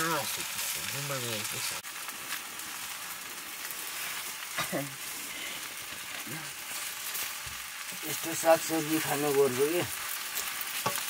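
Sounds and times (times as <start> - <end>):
greens sizzling in a wok: 0.0 - 11.0.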